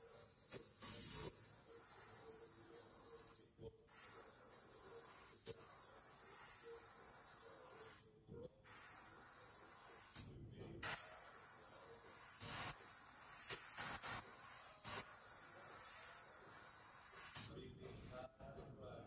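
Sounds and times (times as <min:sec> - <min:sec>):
airbrush hissing: 0:00.0 - 0:08.0, 0:08.7 - 0:17.5.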